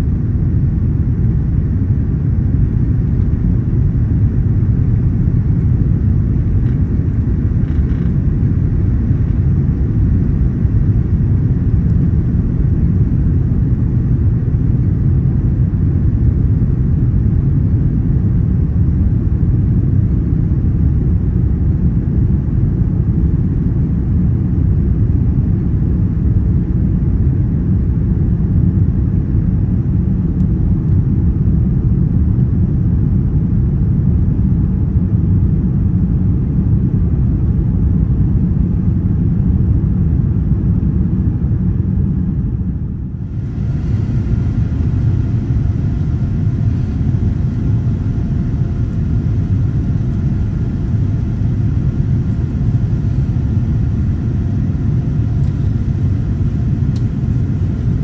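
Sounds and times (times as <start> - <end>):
jet engines and airflow rumble: 0.0 - 58.0.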